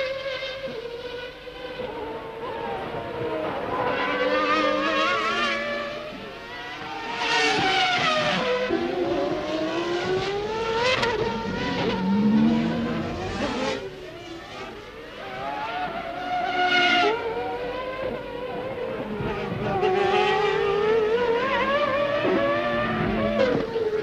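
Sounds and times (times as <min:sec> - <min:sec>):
racing car engines at high revs: 0:00.0 - 0:24.0.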